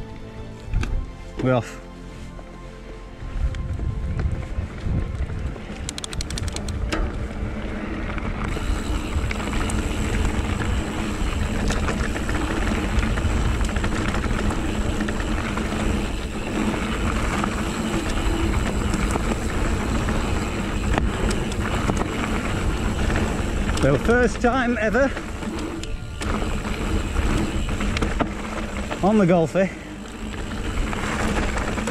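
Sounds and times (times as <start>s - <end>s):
tyres on dirt trail: 0.0s - 31.9s
wind buffeting microphone: 3.2s - 29.1s
bike clicks and rattles: 4.2s - 31.9s.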